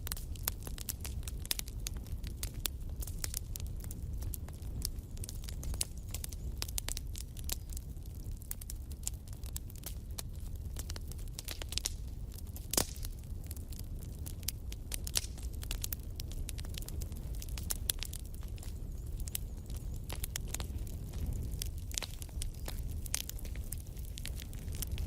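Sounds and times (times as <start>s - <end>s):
low rumble of flame: 0.0s - 25.0s
wood fire crackling: 0.0s - 25.0s.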